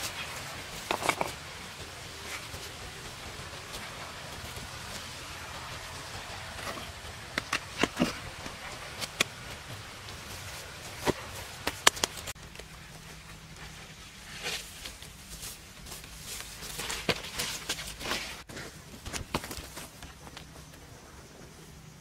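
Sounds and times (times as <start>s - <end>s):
soil and stone scraping: 0.0s - 20.8s
low steady hum: 0.0s - 22.0s.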